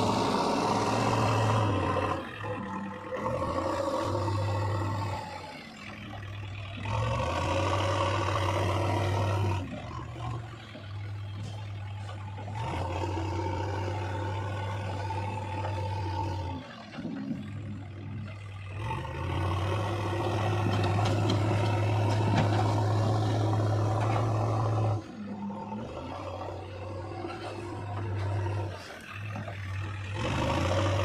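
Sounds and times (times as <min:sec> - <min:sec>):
heavy diesel machinery engine: 0:00.0 - 0:31.0.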